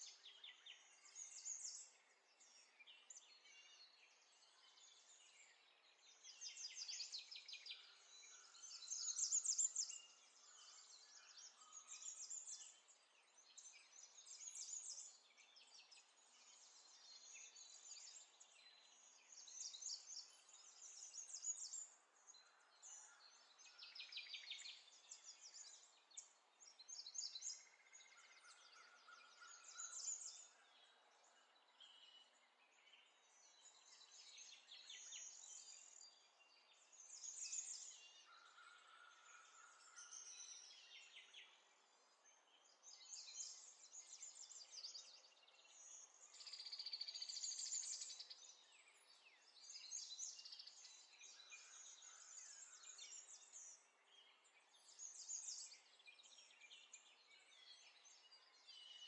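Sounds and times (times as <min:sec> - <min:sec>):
songbird chirping trills: 0:00.0 - 0:59.0.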